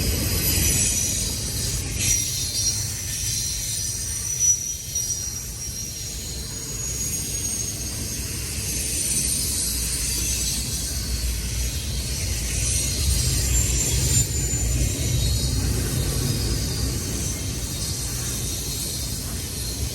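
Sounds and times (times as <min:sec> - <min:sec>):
freight train cars rumbling: 0:00.0 - 0:19.9.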